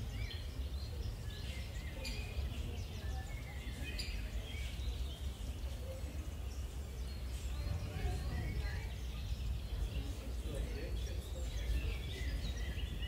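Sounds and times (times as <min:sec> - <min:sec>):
distant murmuring voices: 0:00.0 - 0:13.0.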